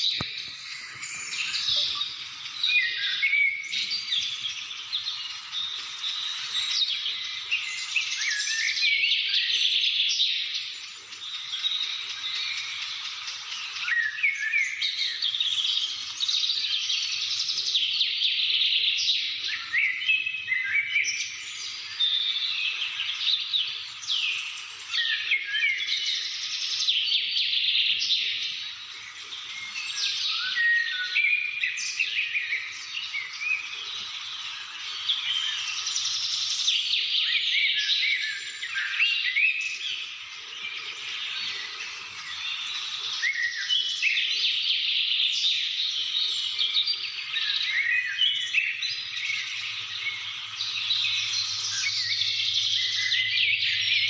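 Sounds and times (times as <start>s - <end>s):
many birds chirping: 0.0s - 54.0s.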